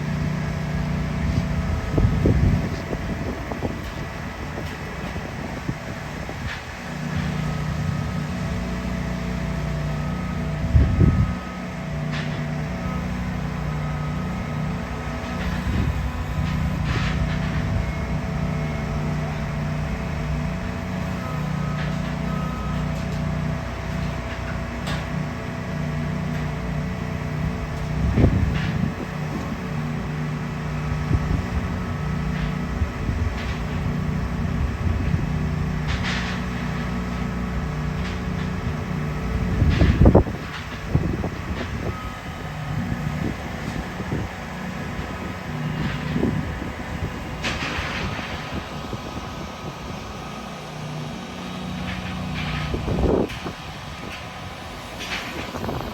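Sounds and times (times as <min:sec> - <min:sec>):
diesel machinery droning: 0:00.0 - 0:55.9.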